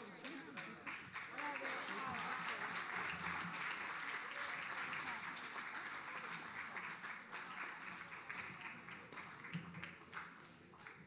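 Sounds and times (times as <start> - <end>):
audience applauding: 0.2 - 11.0.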